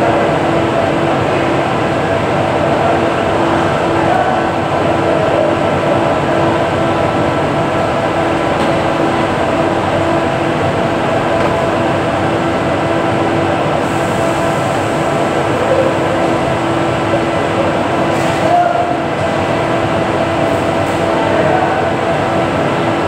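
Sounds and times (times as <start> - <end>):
loud mechanical drone: 0.0 - 23.0
mid-pitched hum: 0.0 - 23.0.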